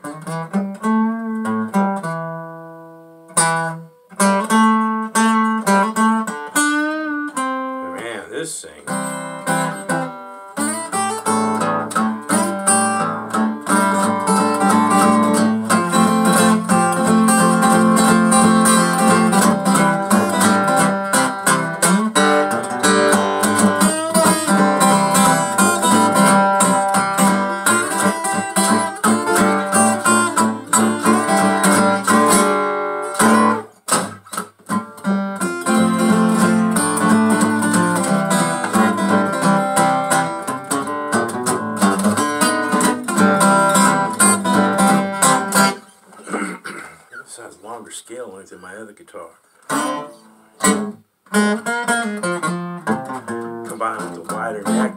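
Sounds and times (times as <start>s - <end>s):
acoustic guitar blues: 0.0s - 54.9s.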